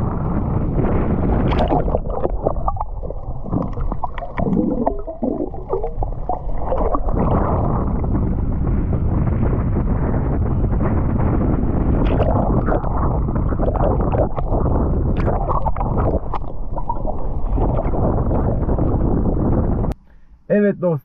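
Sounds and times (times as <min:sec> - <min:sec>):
muffled underwater rush: 0:00.0 - 0:20.0
underwater clicks and gurgling: 0:00.0 - 0:20.0.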